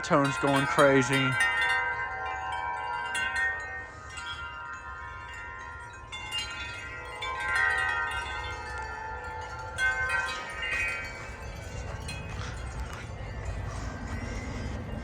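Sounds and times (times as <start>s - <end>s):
gusty wind: 0.0s - 15.0s
metal wind chimes ringing: 0.0s - 15.0s.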